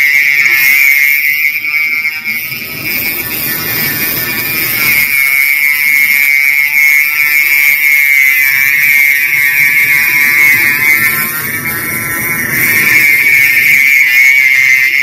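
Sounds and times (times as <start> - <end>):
rotary tool grinding metal: 0.0 - 15.0.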